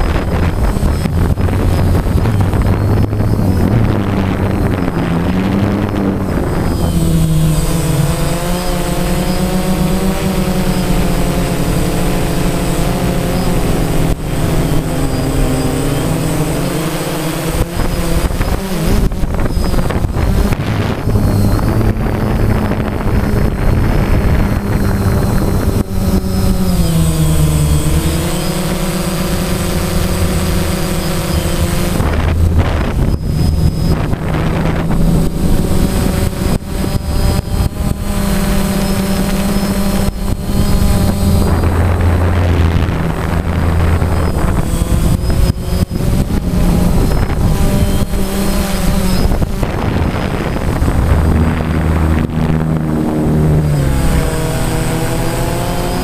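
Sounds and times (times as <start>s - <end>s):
drone propellers whirring: 0.0s - 56.0s.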